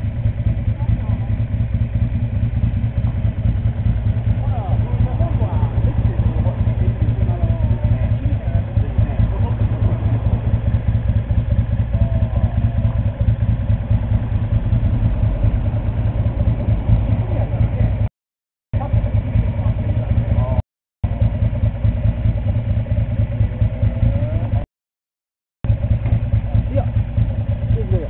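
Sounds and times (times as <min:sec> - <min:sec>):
motorcycle engine idling: 0:00.0 - 0:18.1, 0:18.8 - 0:24.7, 0:25.6 - 0:28.0.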